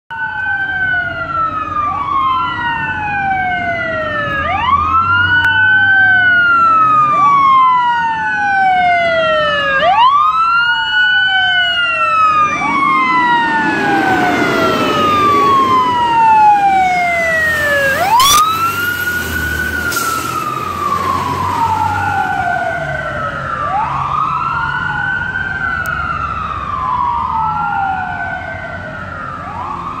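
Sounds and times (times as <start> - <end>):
fire engine sirens wailing: 0.1 - 30.0
truck engines rumbling: 0.1 - 30.0.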